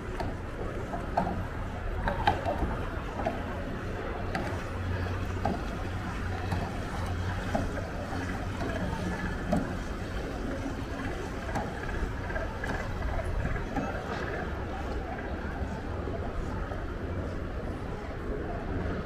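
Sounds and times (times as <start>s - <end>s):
distant indistinct voices: 0.0s - 19.0s
steady low hum: 0.0s - 19.0s.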